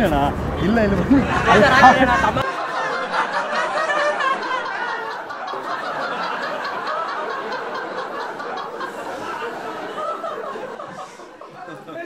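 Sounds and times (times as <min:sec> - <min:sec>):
men laughing: 0:01.0 - 0:12.0.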